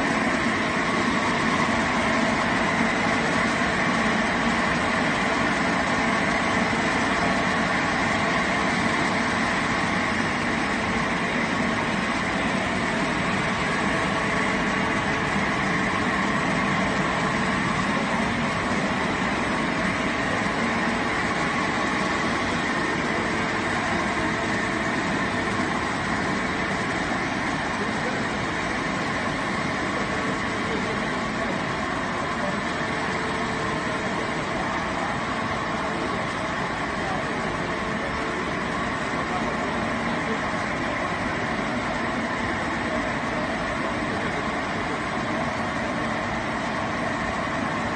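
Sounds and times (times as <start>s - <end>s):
steady machine noise: 0.0s - 47.9s.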